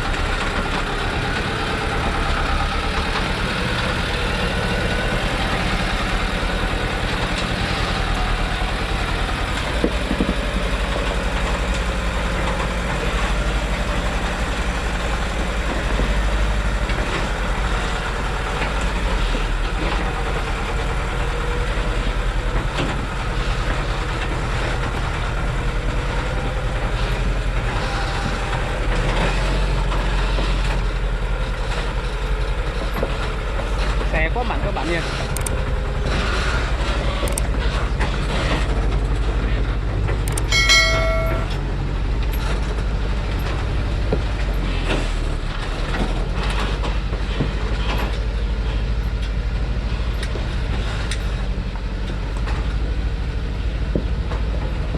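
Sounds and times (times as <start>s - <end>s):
truck engine running: 0.0s - 54.9s.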